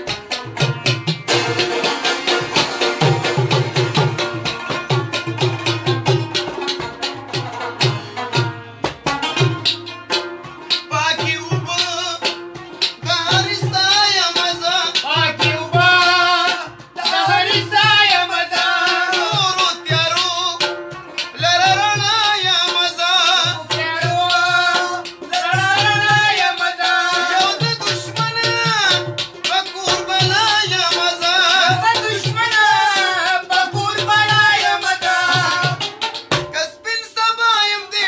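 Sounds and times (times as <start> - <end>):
rabab: 0.0 - 38.0
tabla beat: 0.0 - 38.0.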